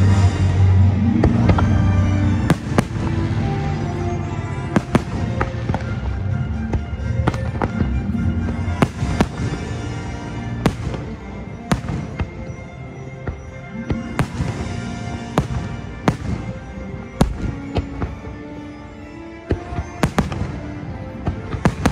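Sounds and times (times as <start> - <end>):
fireworks exploding: 0.0 - 21.9.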